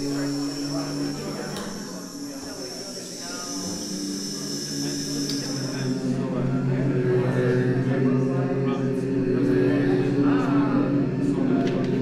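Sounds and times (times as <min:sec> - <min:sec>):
synthesized droning chant-like hum: 0:00.0 - 0:12.0.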